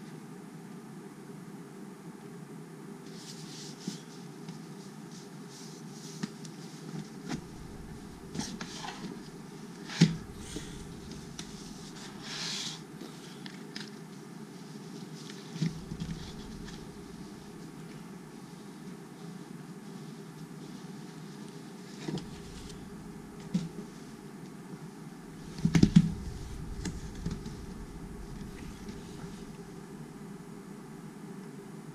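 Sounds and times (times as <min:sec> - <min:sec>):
low room noise: 0:00.0 - 0:31.9.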